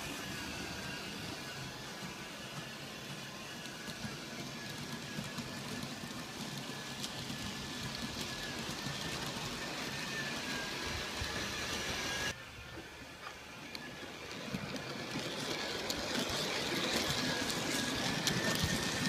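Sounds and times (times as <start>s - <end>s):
model train wheels clattering: 0.0s - 12.3s, 13.2s - 19.0s
motor whine: 0.0s - 19.0s.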